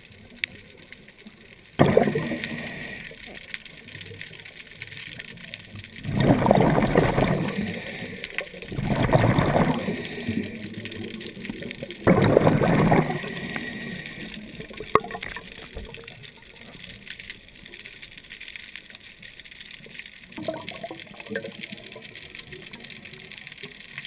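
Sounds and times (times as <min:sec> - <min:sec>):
underwater bubbles rushing: 0:00.0 - 0:24.0.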